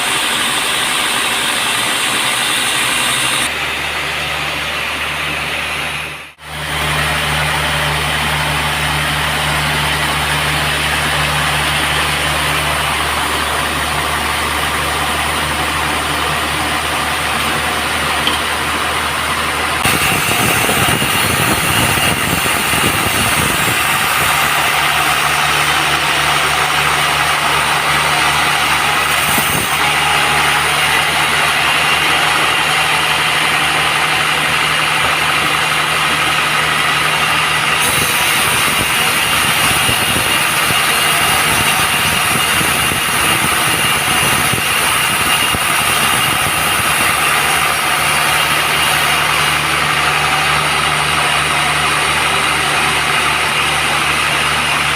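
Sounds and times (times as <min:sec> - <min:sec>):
band saw machine drone: 0:00.0 - 0:54.9.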